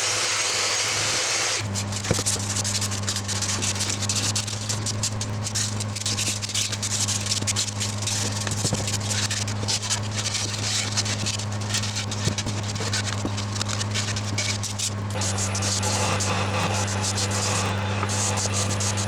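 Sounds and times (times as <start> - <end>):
sandpaper rasping on wood: 0.0 - 19.0
steady low hum: 1.6 - 19.0.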